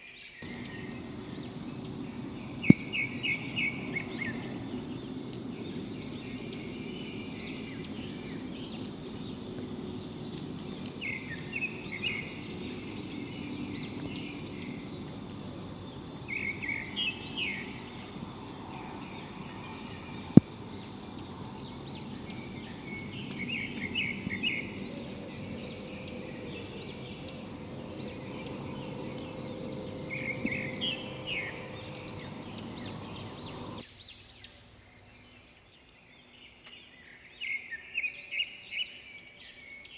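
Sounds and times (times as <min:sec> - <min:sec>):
birds chirping: 0:00.0 - 0:33.8
low background rumble: 0:00.4 - 0:33.8.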